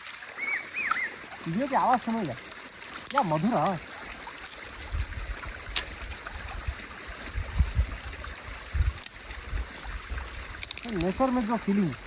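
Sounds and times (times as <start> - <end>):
creek water flowing over rocks: 0.0 - 12.0.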